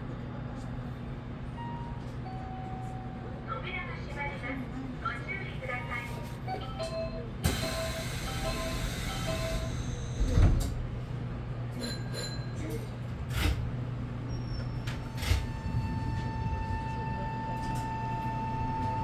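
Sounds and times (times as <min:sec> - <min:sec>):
train motor and wheel hum: 0:00.0 - 0:19.0.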